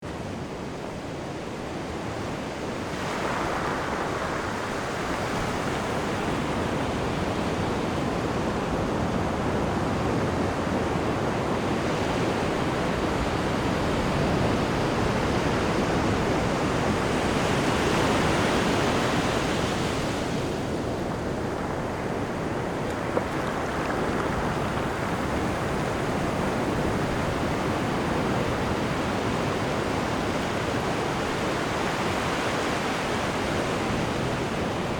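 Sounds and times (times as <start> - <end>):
sea water rushing in ship wake: 0.1 - 34.9.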